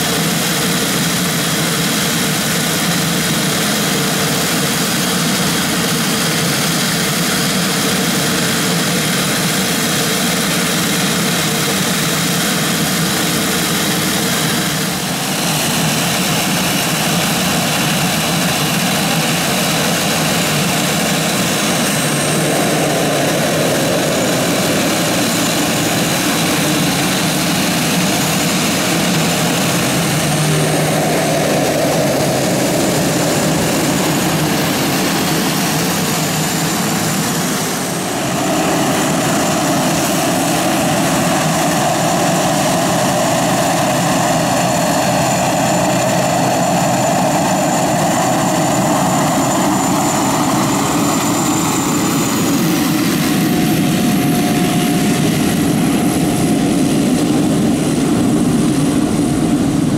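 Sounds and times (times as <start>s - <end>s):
high turbine whine: 0.0s - 59.9s
propeller drone: 0.0s - 59.9s.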